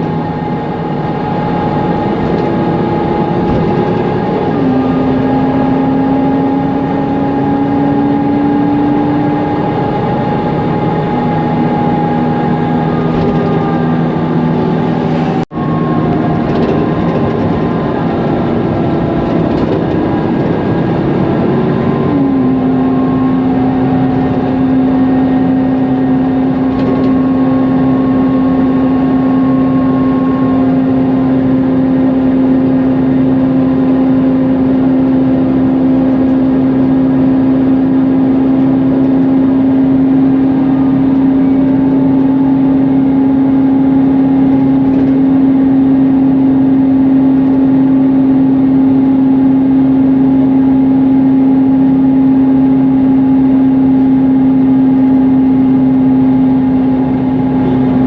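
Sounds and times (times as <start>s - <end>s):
bus cooling fan whine: 0.0s - 58.0s
bus engine whine over rumble: 0.0s - 58.0s.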